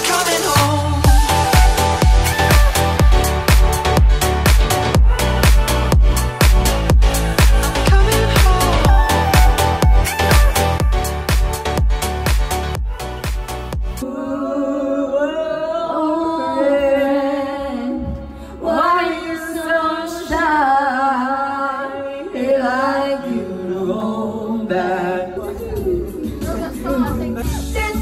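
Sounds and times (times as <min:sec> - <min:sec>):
group singing karaoke in unison: 0:00.0 - 0:28.0.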